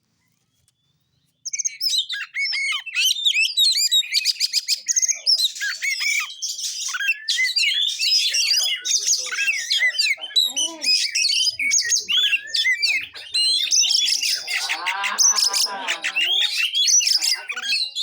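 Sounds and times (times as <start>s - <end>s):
bird singing rapid chirps and trills: 0.8s - 18.0s.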